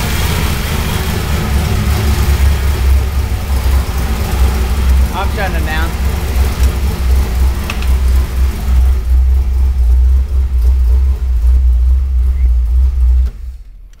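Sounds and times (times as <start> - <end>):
car engine idling with pulsing rumble: 0.0 - 14.0.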